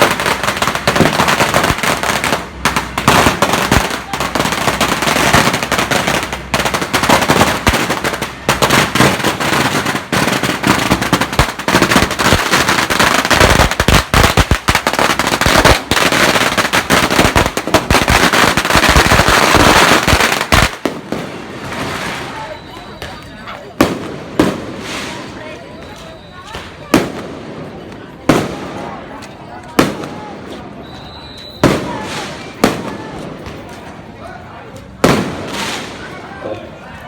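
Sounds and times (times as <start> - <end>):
firecrackers crackling: 0.0 - 37.0.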